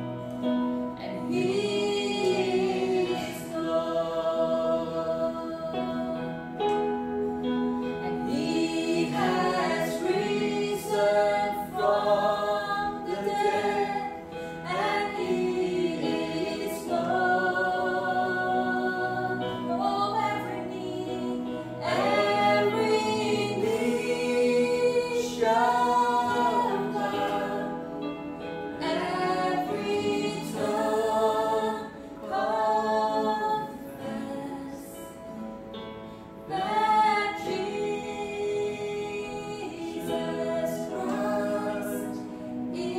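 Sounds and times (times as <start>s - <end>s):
sustained accompaniment: 0.0s - 42.9s
voices singing worship song: 0.0s - 42.9s.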